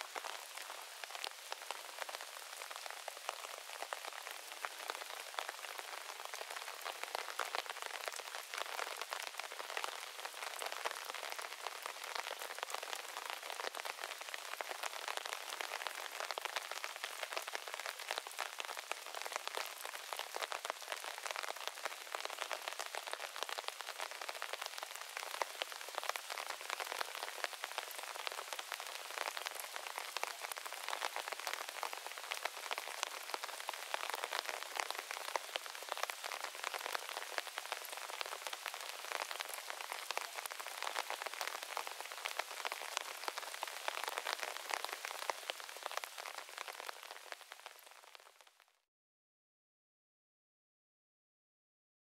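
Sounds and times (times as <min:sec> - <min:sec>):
heavy rain on trees: 0:00.0 - 0:48.7.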